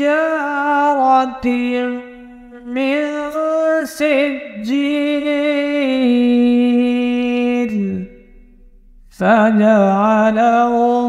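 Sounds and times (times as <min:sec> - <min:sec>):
person chanting a recitation: 0:00.0 - 0:08.3, 0:09.1 - 0:11.0.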